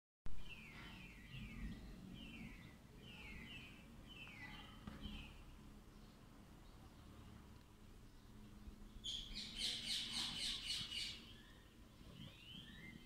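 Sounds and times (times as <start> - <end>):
small bird chirping: 0.4 - 7.3, 8.1 - 13.0.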